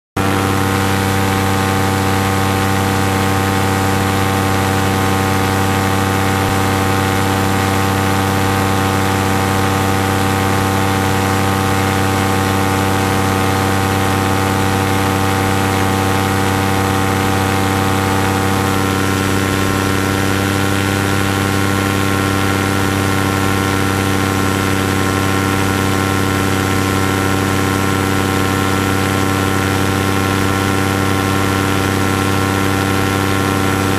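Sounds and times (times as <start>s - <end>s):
paramotor engine and propeller: 0.2s - 33.9s.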